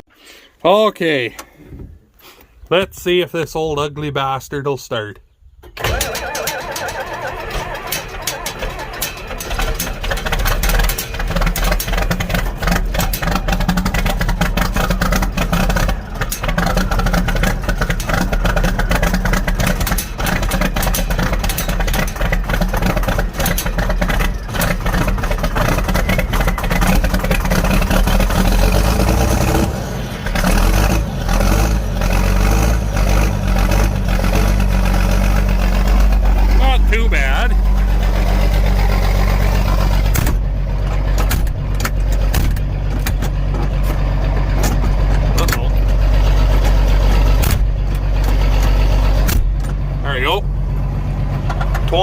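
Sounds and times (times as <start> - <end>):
tractor engine rumbling: 0.0 - 52.0
tractor engine cranking: 5.6 - 52.0.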